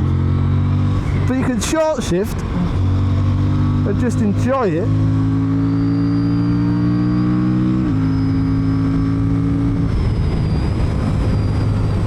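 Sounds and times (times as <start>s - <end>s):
motorcycle engine revving: 0.0s - 1.5s, 2.3s - 12.0s.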